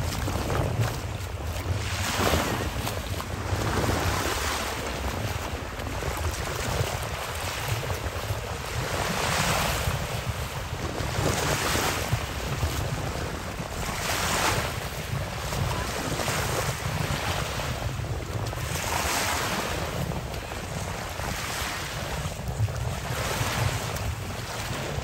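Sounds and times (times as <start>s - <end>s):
sea water swishing at shoreline: 0.0s - 25.0s
wind rumble on microphone: 0.0s - 25.0s.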